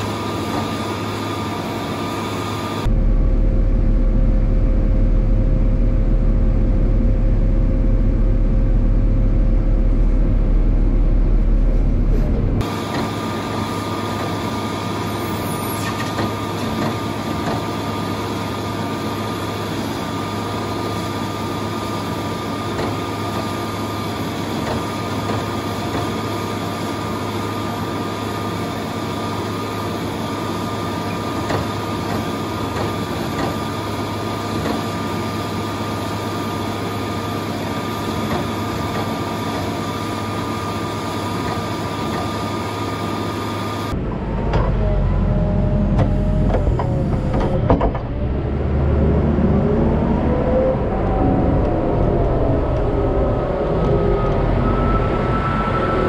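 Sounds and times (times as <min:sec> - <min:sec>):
engine humming: 0:00.0 - 0:27.6, 0:29.2 - 0:56.0
constant high whine: 0:00.0 - 0:56.0.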